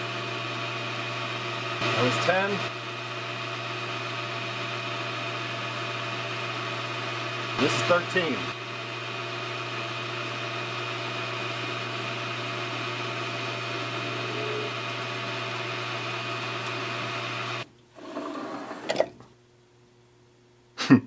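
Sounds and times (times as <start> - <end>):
metal lathe humming: 0.0 - 19.0.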